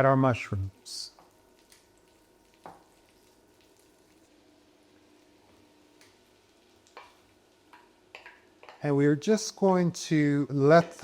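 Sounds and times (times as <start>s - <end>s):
mushrooms sizzling in a pan: 0.8s - 11.0s.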